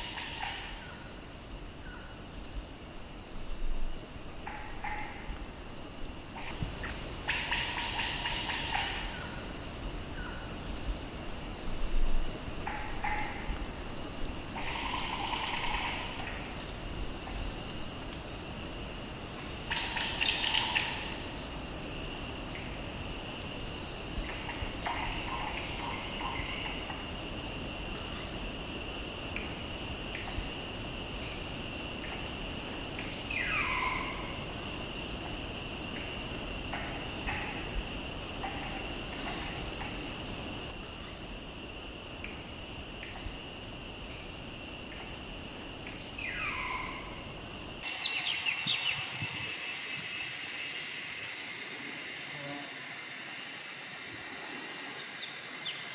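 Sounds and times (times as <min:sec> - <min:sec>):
high-pitched insect drone: 0:00.0 - 0:55.9
low steady insect tone: 0:00.0 - 0:55.9.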